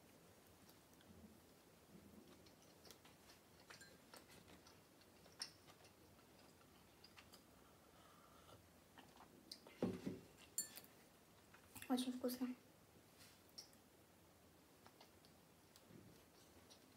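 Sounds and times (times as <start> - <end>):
faint chewing with mouth clicks: 0.0 - 12.0, 13.2 - 16.9.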